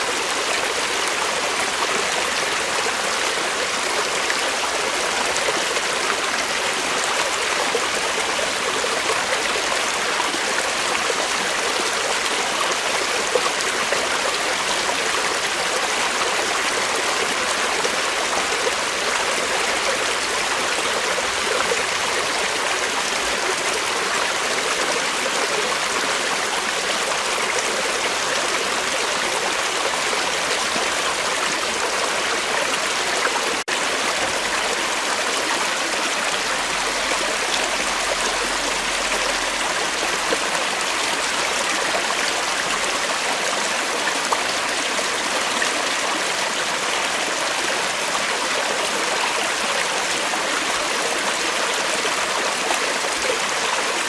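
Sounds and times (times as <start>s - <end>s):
creek water flowing over rocks: 0.0s - 54.0s.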